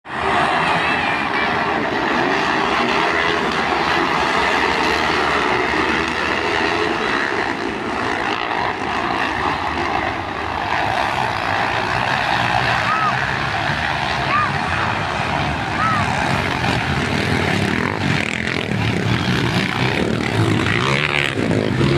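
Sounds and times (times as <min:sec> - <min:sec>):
dirt bike engines running: 0:00.1 - 0:21.9.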